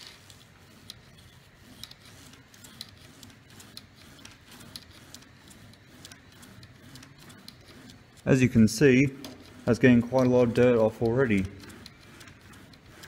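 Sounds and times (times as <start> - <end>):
metal wheels rubbing on track: 1.0 - 13.0.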